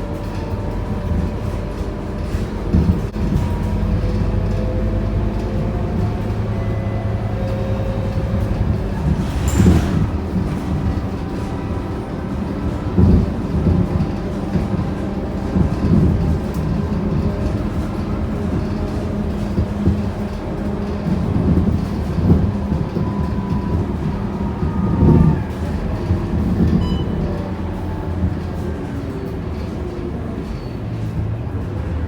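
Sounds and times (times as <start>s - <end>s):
bus diesel engine running: 0.0s - 32.0s
road rumble: 0.0s - 32.0s.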